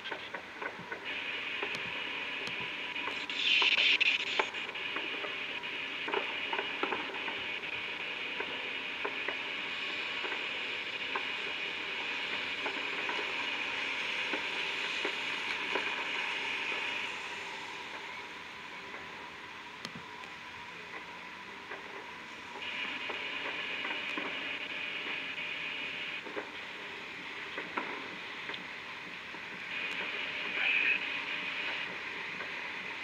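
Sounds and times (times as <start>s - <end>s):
distant fireworks crackling: 0.0s - 33.0s
steady hiss: 0.0s - 33.0s.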